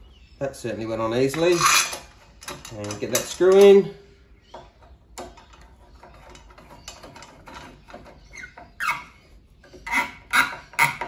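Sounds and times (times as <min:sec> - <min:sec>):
screw squeaking: 0:01.0 - 0:11.0.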